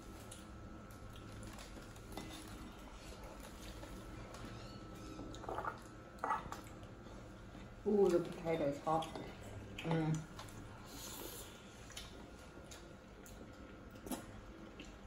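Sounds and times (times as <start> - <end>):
chewing: 0.2 - 7.7, 8.9 - 15.0.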